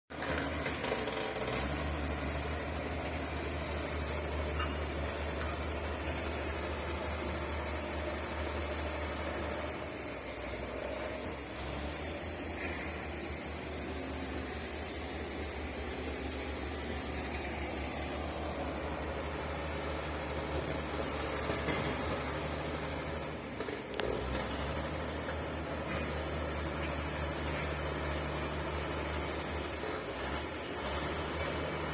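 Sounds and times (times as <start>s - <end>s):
bulldozer diesel engine droning: 0.1s - 31.9s.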